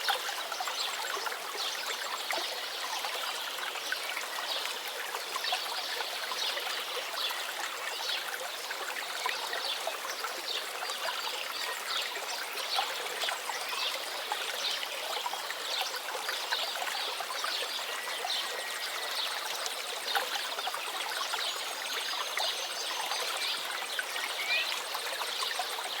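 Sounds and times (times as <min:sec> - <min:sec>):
stream trickling over stones: 0:00.0 - 0:26.0.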